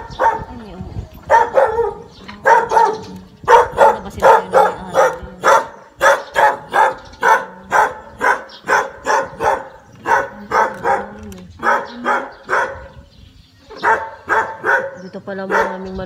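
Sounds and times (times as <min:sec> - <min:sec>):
dog barking: 0:00.0 - 0:00.6, 0:01.2 - 0:13.0, 0:13.8 - 0:16.0.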